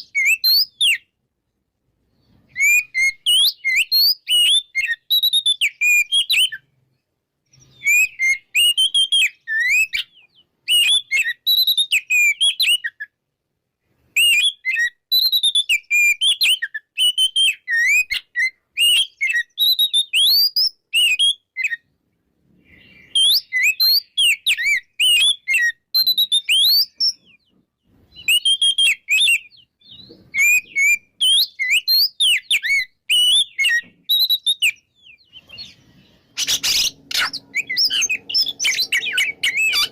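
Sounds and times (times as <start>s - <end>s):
bird singing whistles and chirps: 0.0s - 1.1s, 2.1s - 13.2s, 14.1s - 21.9s, 22.5s - 39.9s.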